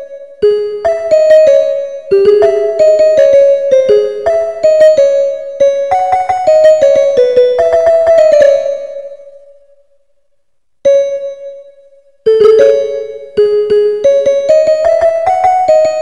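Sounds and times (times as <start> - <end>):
piano app melody: 0.0 - 9.5, 10.8 - 16.0.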